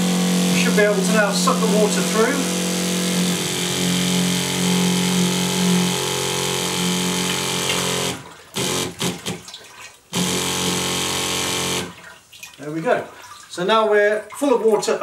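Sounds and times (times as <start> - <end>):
electric water pump humming: 0.0 - 15.0.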